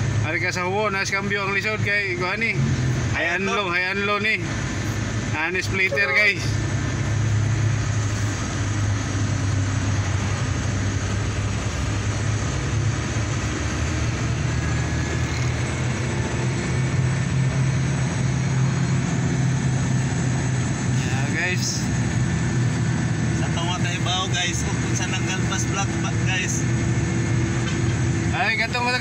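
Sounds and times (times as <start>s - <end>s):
diesel truck engine running: 0.0s - 29.0s
road noise rush: 0.0s - 29.0s.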